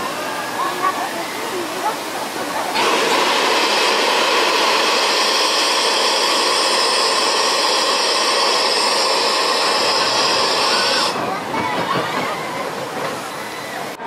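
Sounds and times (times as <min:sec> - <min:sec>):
steam venting hiss: 0:00.0 - 0:14.0.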